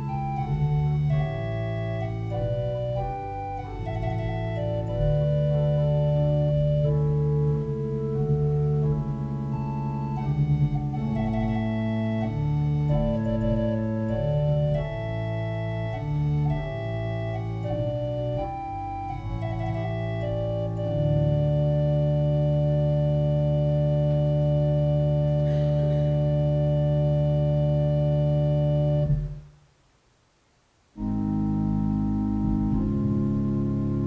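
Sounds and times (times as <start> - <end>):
organ playing sustained chords: 0.0 - 29.5, 31.0 - 34.0.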